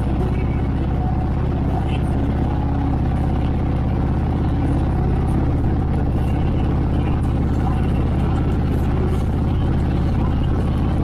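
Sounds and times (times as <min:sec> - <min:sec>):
motorcycle engines cruising: 0:00.0 - 0:11.0.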